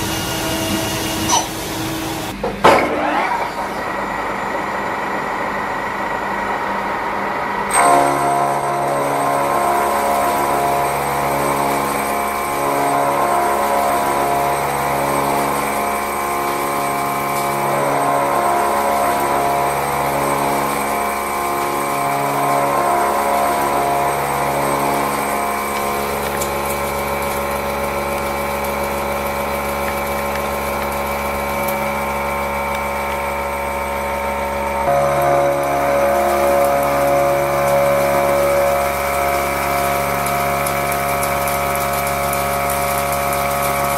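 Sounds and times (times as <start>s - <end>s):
milling machine cutting steel: 0.0s - 43.9s.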